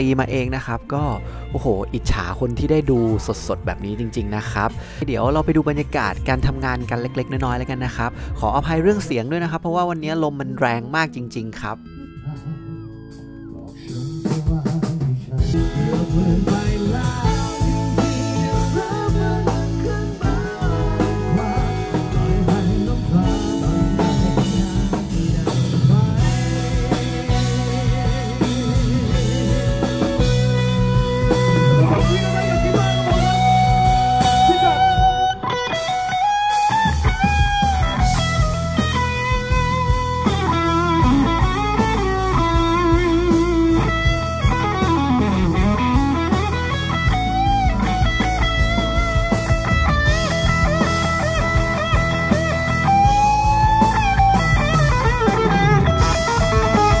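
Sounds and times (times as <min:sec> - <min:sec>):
live rock band: 0:00.0 - 0:09.5, 0:11.3 - 0:57.0
electric guitar bending notes: 0:11.2 - 0:57.0.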